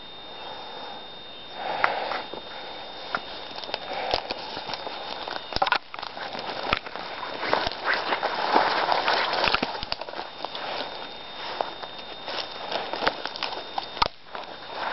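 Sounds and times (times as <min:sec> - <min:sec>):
footsteps through grass and twigs: 0:02.1 - 0:14.9.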